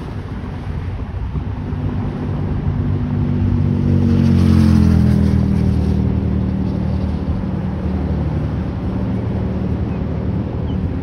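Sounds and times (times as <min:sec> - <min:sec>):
vehicle passing by: 0:00.0 - 0:11.0
wind buffeting microphone: 0:00.0 - 0:11.0.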